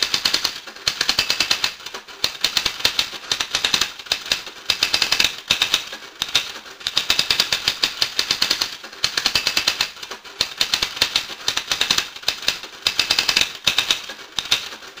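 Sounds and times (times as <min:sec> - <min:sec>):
rapid dry clicking and clattering: 0:00.0 - 0:15.0.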